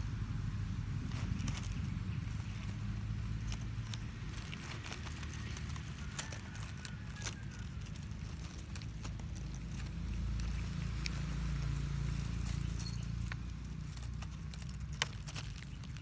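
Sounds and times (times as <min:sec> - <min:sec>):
steady low rumble: 0:00.0 - 0:16.0
cat chewing plant stem: 0:00.1 - 0:16.0.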